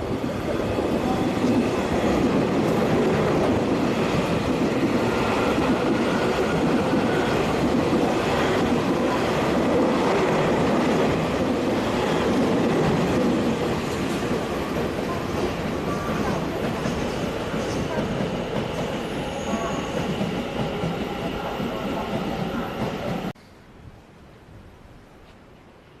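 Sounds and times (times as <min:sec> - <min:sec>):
train wheels rumbling: 0:00.0 - 0:23.4.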